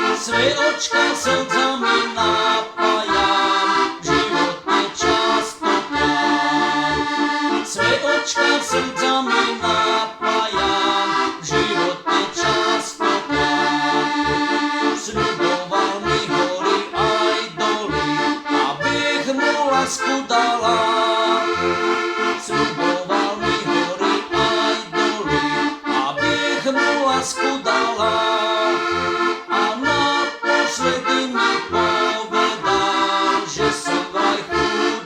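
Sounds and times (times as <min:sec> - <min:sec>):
button accordion folk melody: 0:00.0 - 0:35.0.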